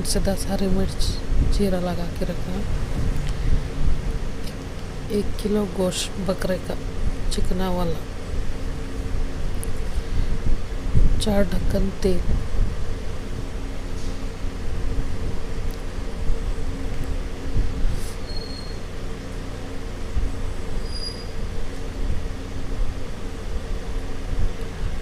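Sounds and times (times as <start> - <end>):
low rumble with hum: 0.0 - 25.0.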